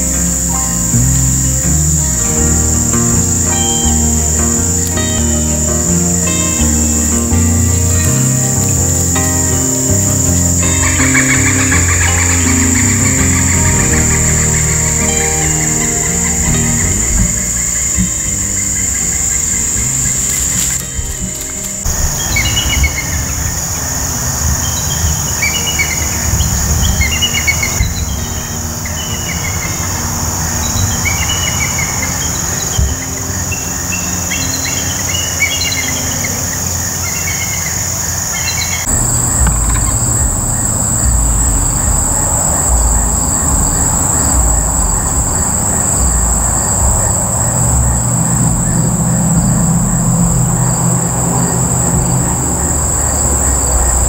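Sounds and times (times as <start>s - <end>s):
wind rumble on microphone: 0.0s - 35.1s, 36.3s - 54.0s
low steady hum: 0.0s - 36.5s, 38.8s - 54.0s
high-pitched insect drone: 0.0s - 54.0s.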